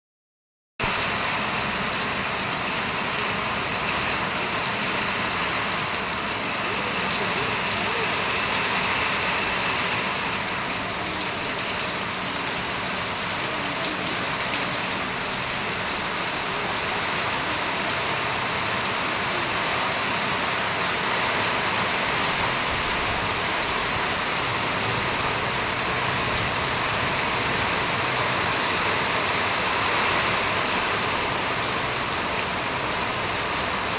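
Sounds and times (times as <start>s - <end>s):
steady rain falling: 0.8s - 33.9s.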